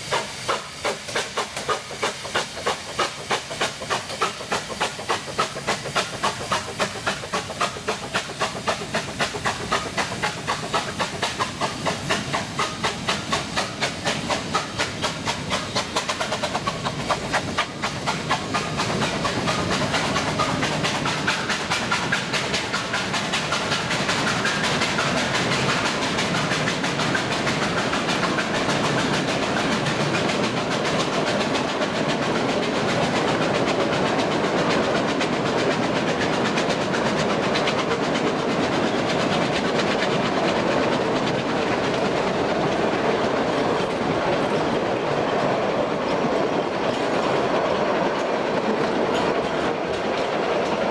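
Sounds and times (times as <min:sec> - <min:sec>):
hissing steam: 0:00.0 - 0:50.9
steam locomotive exhaust beats: 0:00.0 - 0:50.9
train cars clattering on rails: 0:00.0 - 0:50.9.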